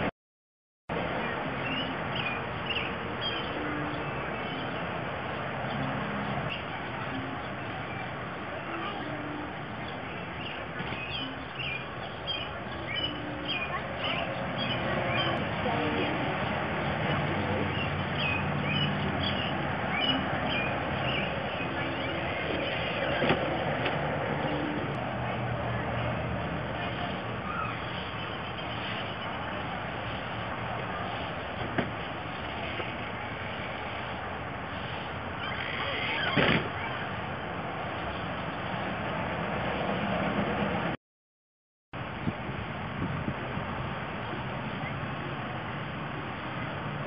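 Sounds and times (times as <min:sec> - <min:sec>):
outdoor background noise: 0:00.9 - 0:41.0, 0:42.0 - 0:47.0.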